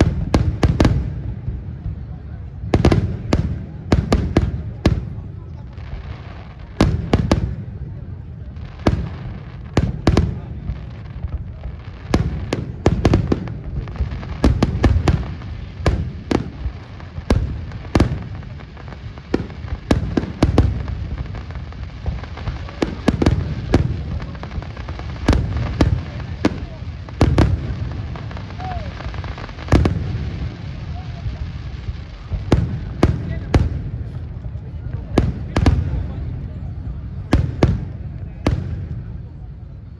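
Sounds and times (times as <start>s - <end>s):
fireworks bangs and cracks: 0.0s - 39.9s.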